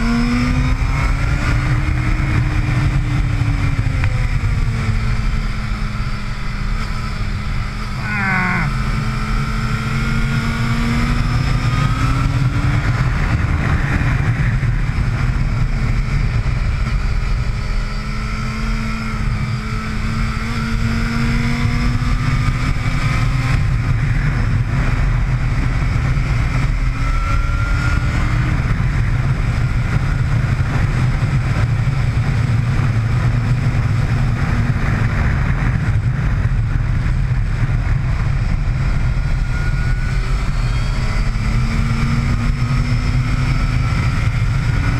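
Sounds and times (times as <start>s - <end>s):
sport motorcycle engine revving: 0.0s - 44.9s
wind rumble on microphone: 0.0s - 44.9s.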